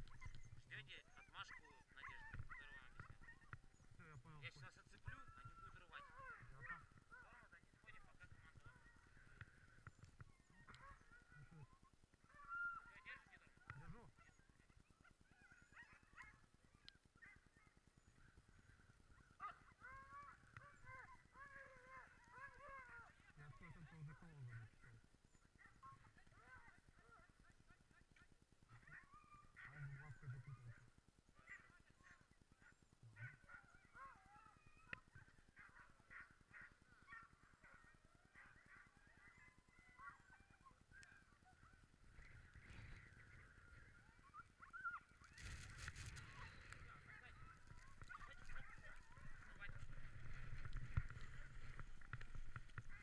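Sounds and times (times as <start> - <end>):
sled dogs yelping and whining: 0.0 - 53.0.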